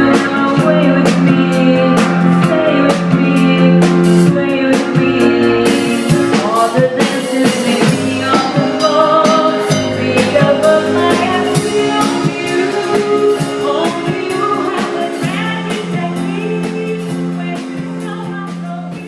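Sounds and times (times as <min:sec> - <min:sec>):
band playing a song: 0:00.0 - 0:19.0
person singing: 0:00.0 - 0:19.0.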